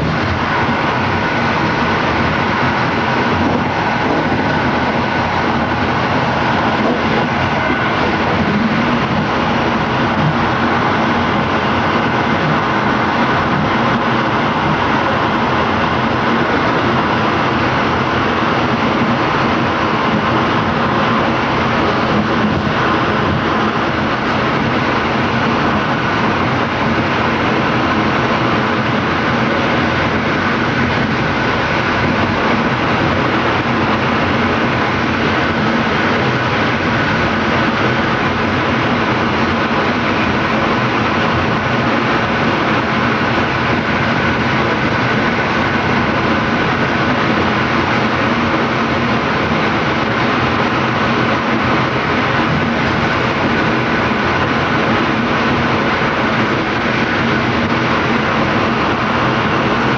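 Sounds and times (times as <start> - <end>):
train wheels on rail: 0.0 - 59.9.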